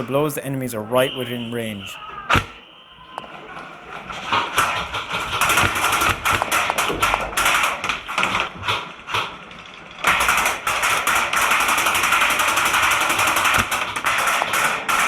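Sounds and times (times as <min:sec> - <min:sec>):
airsoft guns firing: 0:00.9 - 0:15.0.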